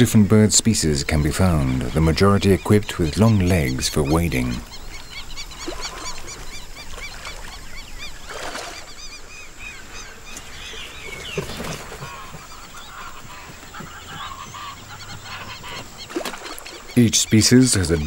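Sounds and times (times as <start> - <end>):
lower bird calls: 0.0 - 18.0.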